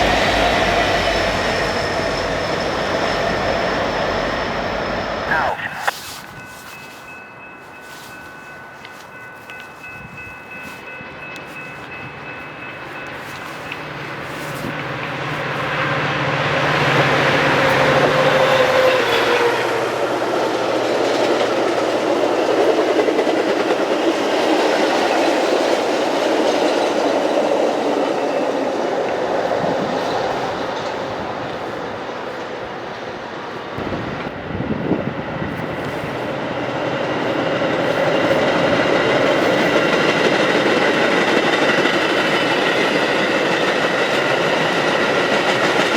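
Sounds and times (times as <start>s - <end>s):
train engine hum: 0.0s - 45.9s
train wheels clattering on rails: 7.6s - 45.9s.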